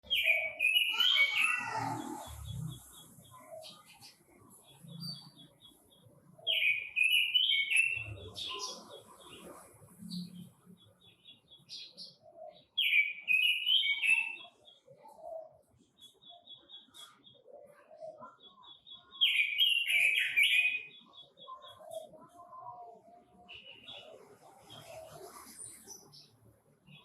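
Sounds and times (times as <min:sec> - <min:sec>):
bird rapid chirpy song: 0:00.0 - 0:27.0.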